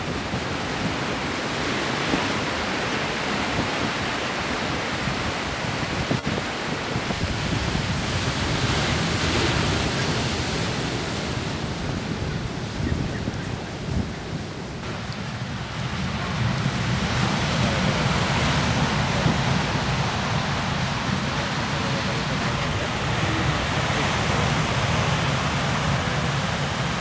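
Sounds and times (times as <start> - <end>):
surf breaking over rocks: 0.0 - 27.0.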